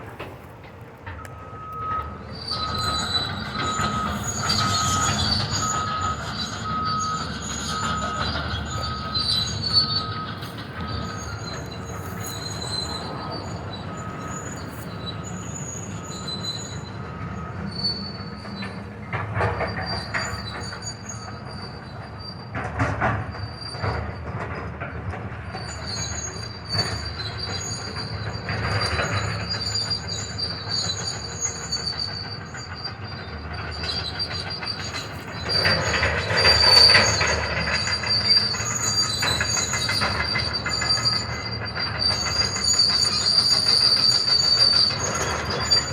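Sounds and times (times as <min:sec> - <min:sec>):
heavy machinery rumbling: 0:00.0 - 0:45.9
metal squealing: 0:01.2 - 0:24.4, 0:25.5 - 0:45.9.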